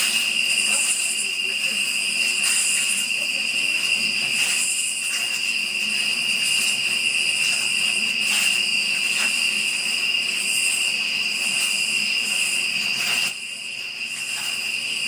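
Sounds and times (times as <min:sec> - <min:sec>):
night insect chorus: 0:00.0 - 0:15.0.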